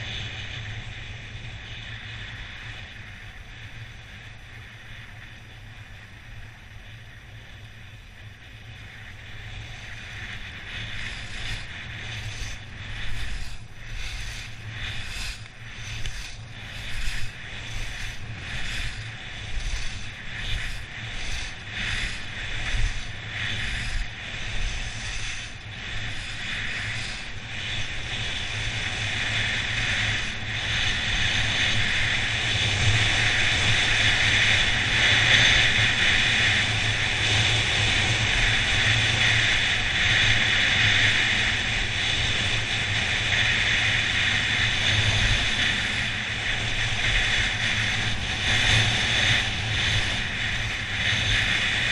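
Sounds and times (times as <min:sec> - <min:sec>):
wind over microphone: 0:00.0 - 0:51.9
skis scraping snow: 0:08.8 - 0:40.6, 0:41.2 - 0:51.9.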